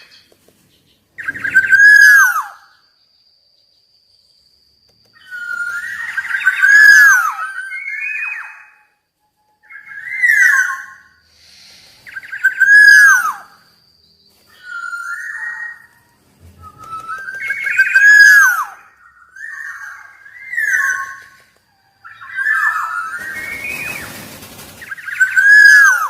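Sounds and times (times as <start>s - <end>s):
bird calling: 0.0s - 3.0s, 5.0s - 26.0s.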